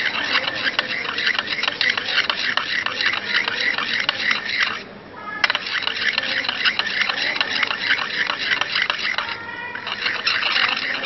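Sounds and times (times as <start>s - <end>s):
spatula scraping a porcelain dish: 0.0s - 4.8s, 5.4s - 11.0s.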